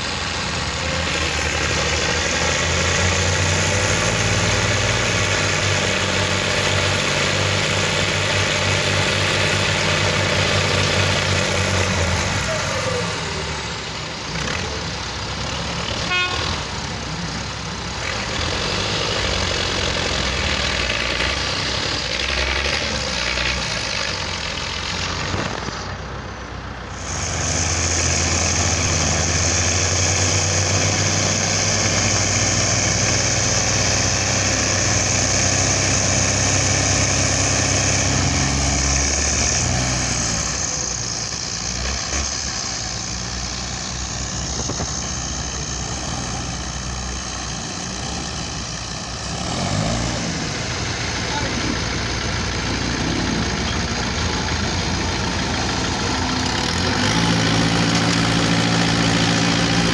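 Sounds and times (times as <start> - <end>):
diesel engines under load: 0.0 - 59.9.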